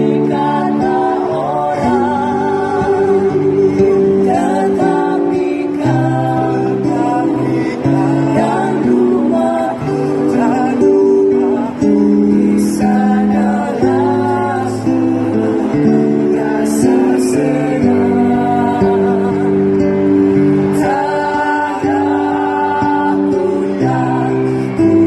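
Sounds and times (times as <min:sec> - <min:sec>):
choir singing in parts: 0:00.0 - 0:25.0.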